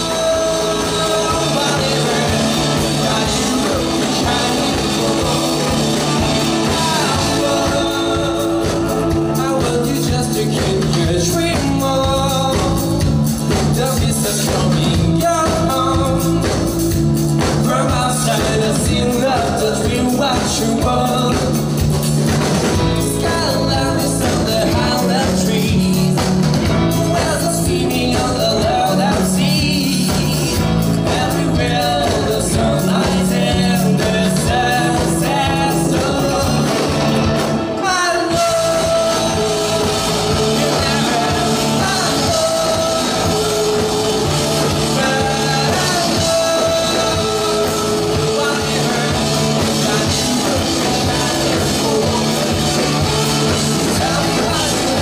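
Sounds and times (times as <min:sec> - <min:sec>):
drum beat: 0:00.0 - 0:55.0
lead vocal singing: 0:00.0 - 0:55.0
live rock band: 0:00.0 - 0:55.0.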